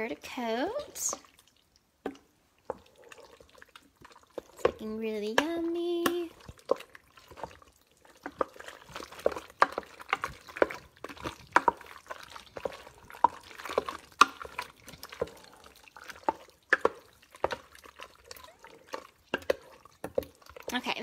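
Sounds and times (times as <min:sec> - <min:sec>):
spoon stirring thick sauce: 0:00.0 - 0:21.0.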